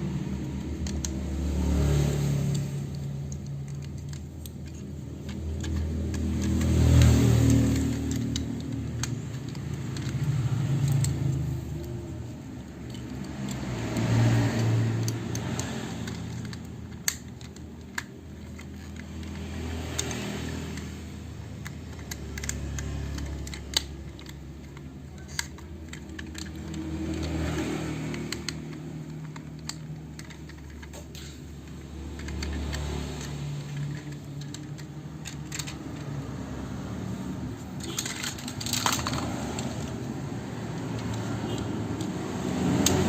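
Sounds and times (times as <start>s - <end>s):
plastic toy parts clicking: 0.0s - 43.0s.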